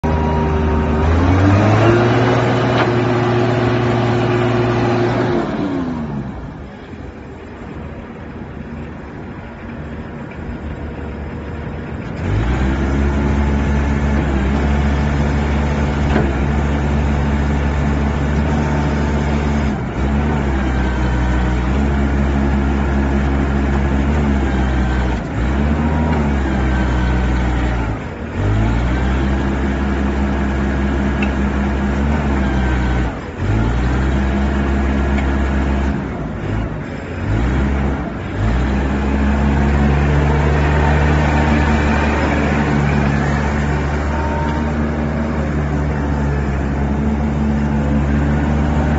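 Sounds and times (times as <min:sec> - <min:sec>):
forklift engine revving: 0:00.0 - 0:07.7, 0:11.8 - 0:48.9.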